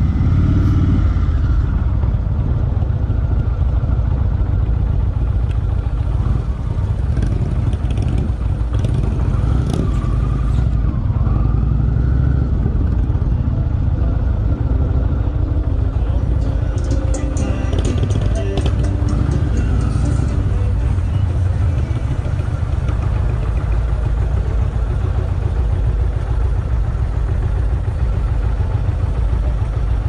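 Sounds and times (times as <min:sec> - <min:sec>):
motorcycle running: 0:00.0 - 0:30.0.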